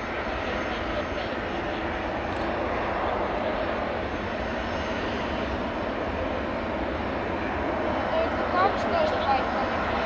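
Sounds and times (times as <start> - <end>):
jet engines running steadily: 0.0 - 10.0.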